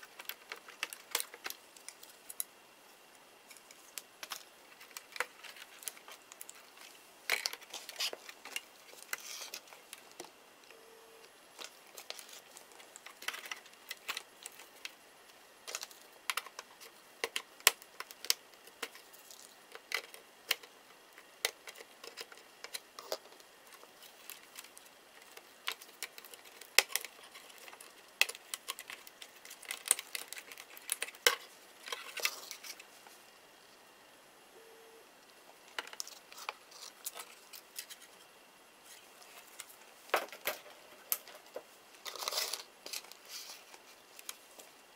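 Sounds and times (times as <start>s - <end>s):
laptop parts clicking and scraping: 0.0s - 2.5s, 3.5s - 10.3s, 11.6s - 15.0s, 15.6s - 32.9s, 35.7s - 38.3s, 38.9s - 44.7s.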